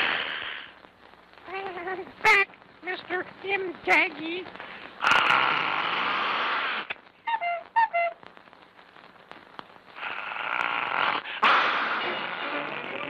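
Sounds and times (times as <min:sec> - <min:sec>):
sharp crack with hiss: 0:00.0 - 0:13.0.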